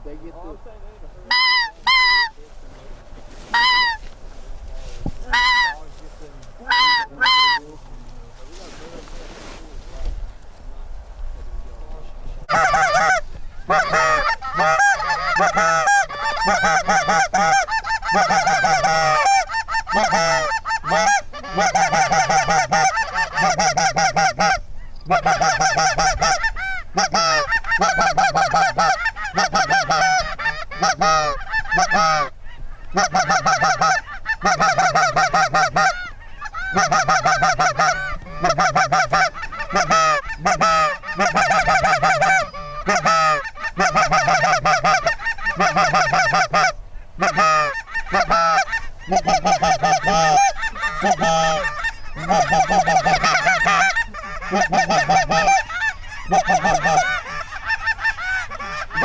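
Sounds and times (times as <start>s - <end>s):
goose honking: 1.3s - 2.5s, 3.4s - 4.2s, 5.2s - 6.0s, 6.6s - 7.8s, 12.5s - 59.0s.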